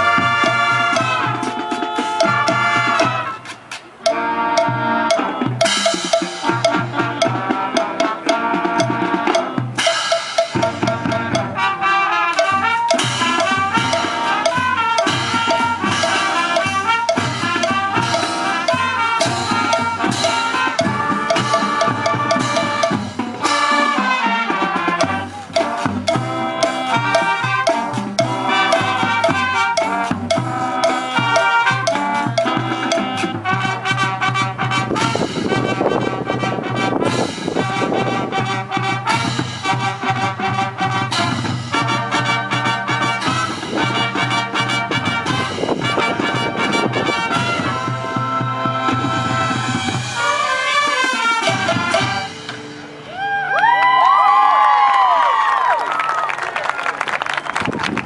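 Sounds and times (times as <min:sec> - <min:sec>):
salsa music with brass and drums: 0:00.0 - 0:52.9.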